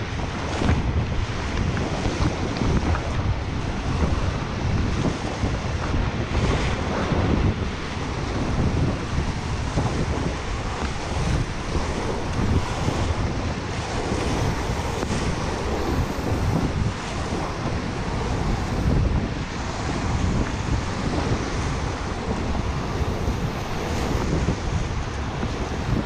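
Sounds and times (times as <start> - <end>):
waves splashing over boat: 0.0 - 26.0
whitewater rushing and crashing: 0.0 - 26.0
wind buffeting microphone: 0.0 - 26.0.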